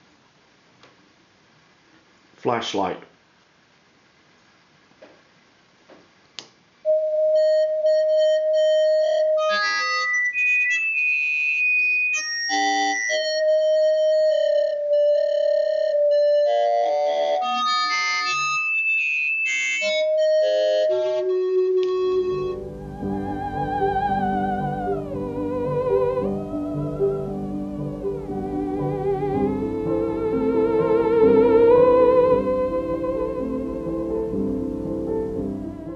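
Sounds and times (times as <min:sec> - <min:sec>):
electronic theremin notes: 0:06.9 - 0:35.9.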